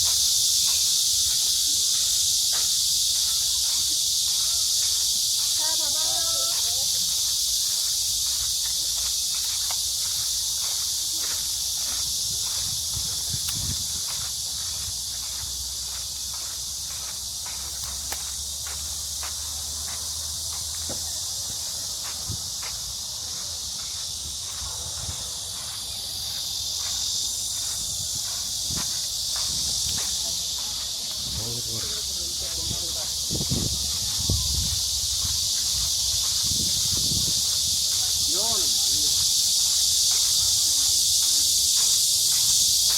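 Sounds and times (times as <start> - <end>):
cicadas chorus: 0.0 - 42.9
footsteps on path: 0.0 - 42.9.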